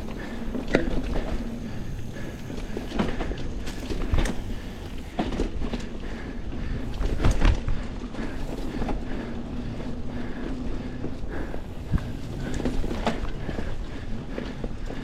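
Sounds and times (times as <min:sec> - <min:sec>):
bike knocking and rattling: 0:00.0 - 0:15.0
wind: 0:00.0 - 0:15.0.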